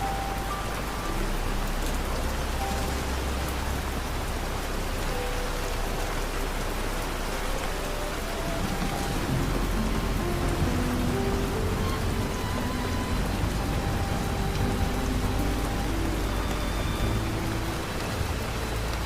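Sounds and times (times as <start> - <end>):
deep low rumble: 0.0 - 19.0
soft sustained music notes: 0.0 - 19.0
steady rain hiss: 0.0 - 19.0.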